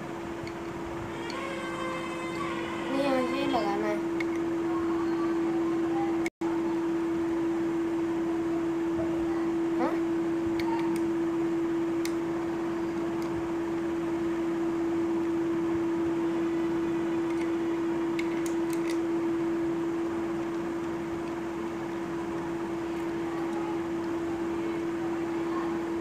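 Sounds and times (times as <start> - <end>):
steady tonal hum: 0.0 - 26.0.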